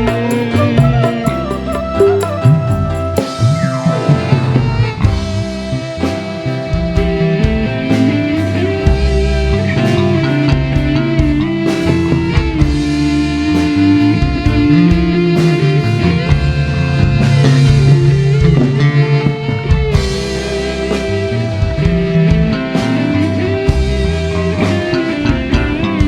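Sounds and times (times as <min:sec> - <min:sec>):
drum kit: 0:00.0 - 0:26.0
electric guitar melody: 0:00.0 - 0:26.0
held bass notes: 0:00.0 - 0:26.0.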